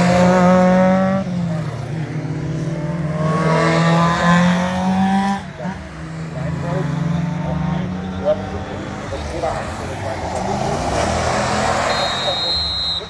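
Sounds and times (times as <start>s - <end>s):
drone of engines: 0.0s - 13.0s
race cars passing: 0.0s - 13.0s.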